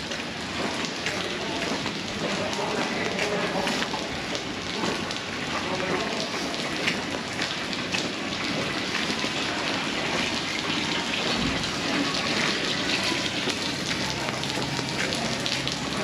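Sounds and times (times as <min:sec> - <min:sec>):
heavy rain pattering on puddles: 0:00.0 - 0:16.0.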